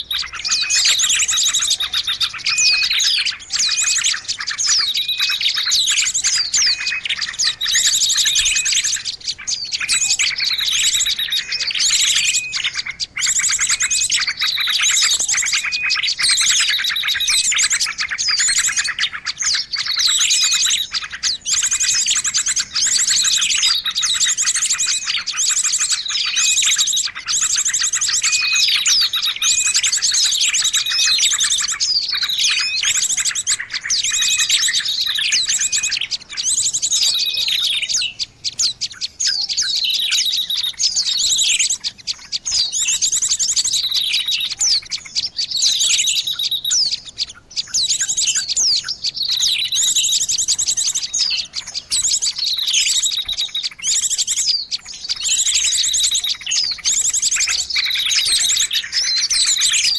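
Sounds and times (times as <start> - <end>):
downward sweeping bird calls: 0.0 - 59.9
songbirds chirping and trilling: 0.0 - 59.9.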